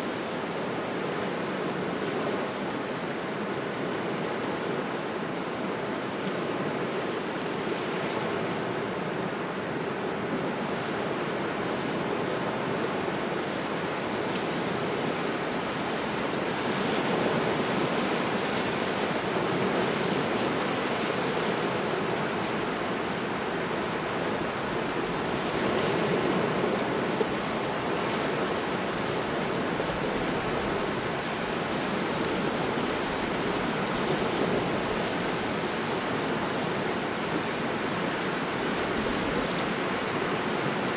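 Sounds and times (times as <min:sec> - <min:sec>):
waves washing onto shore: 0:00.0 - 0:40.9.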